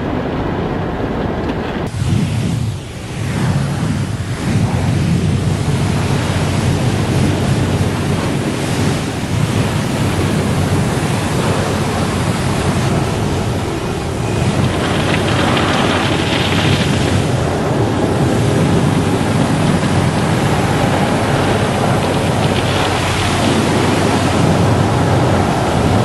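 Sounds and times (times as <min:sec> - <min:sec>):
car wash rushing noise: 0:00.0 - 0:26.0
low hum: 0:00.0 - 0:26.0.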